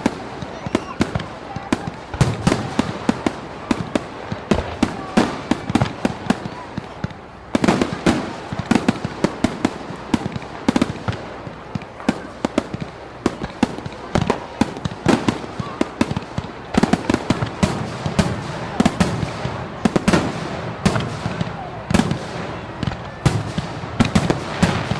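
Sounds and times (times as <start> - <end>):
sharp pops and bangs: 0.0 - 24.9
steady background noise: 0.0 - 24.9.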